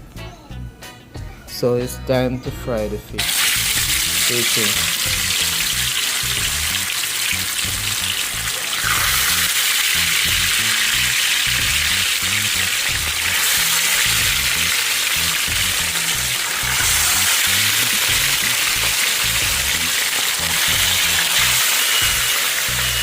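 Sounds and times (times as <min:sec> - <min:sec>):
fish frying in hot oil: 0:03.2 - 0:23.0
music with bass beat: 0:03.6 - 0:23.0.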